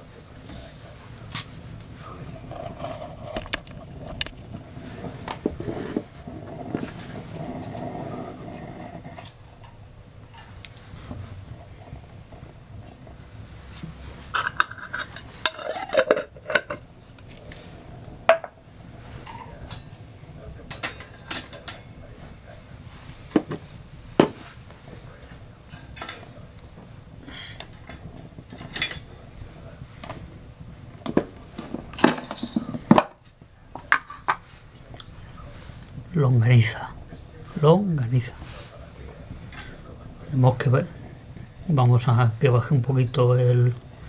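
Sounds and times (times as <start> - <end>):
stove fire burning: 0.0 - 44.0.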